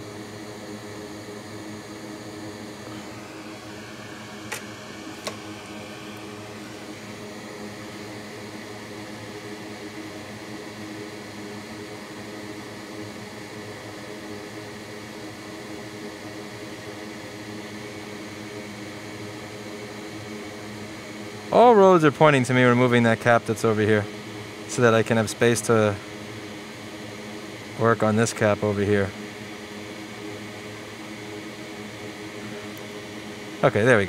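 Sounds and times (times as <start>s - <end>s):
fan whirring: 0.0s - 34.0s.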